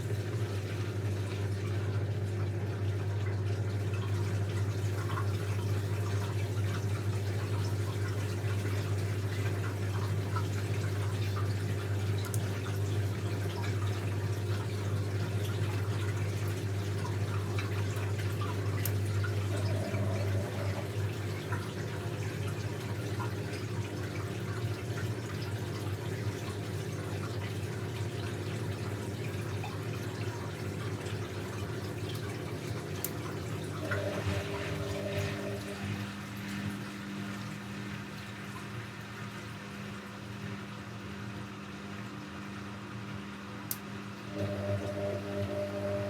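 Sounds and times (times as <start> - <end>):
low electric hum: 0.0 - 26.6, 28.2 - 46.0
water running and trickling: 0.0 - 42.3
washing machine running: 0.0 - 46.0.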